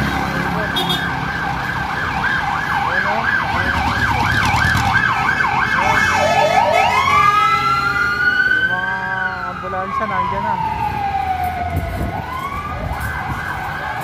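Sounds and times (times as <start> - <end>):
emergency vehicle siren: 0.0 - 14.0
low traffic rumble: 0.0 - 14.0.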